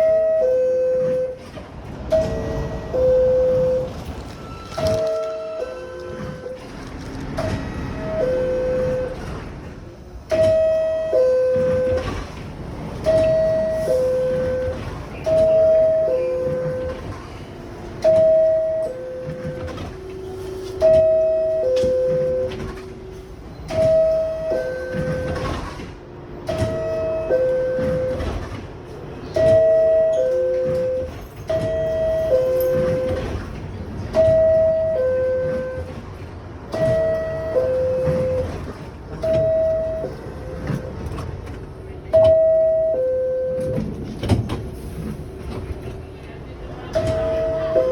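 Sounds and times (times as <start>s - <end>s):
sliding doors clunking: 0.0s - 47.9s.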